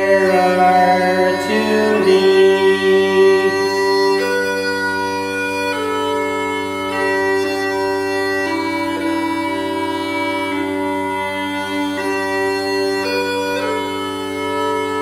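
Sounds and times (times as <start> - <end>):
bagpipe drones: 0.0 - 15.0
smallpipes playing slow melody: 0.0 - 15.0.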